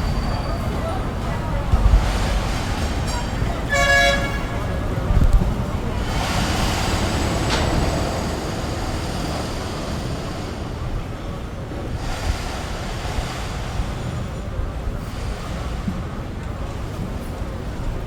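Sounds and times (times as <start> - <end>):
street noise: 0.0 - 18.0
tram wheels rumbling on rails: 0.0 - 18.0.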